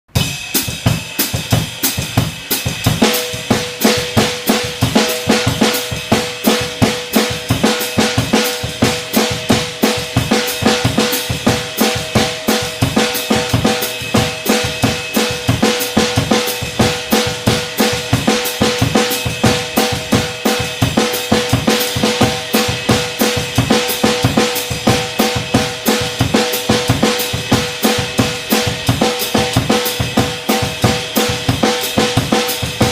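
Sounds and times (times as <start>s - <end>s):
drum kit playing samba groove: 0.1s - 32.9s.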